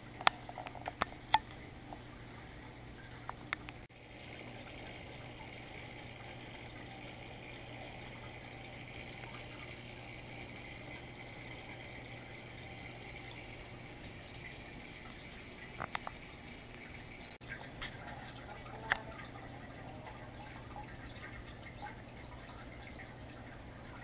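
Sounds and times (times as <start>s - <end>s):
aquarium air bubbling: 0.0s - 24.0s
filter humming: 0.0s - 24.0s.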